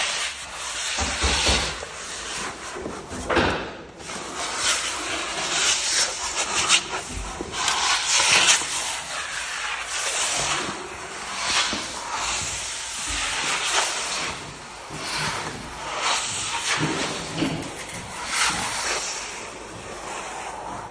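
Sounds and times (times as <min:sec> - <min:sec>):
filler knife scraping wood floor: 0:00.0 - 0:20.9.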